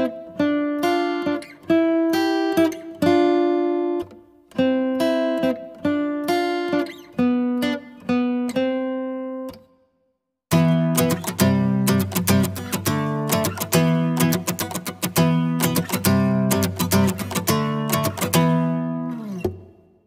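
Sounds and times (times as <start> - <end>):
acoustic guitar chords: 0.0 - 9.8, 10.5 - 19.8.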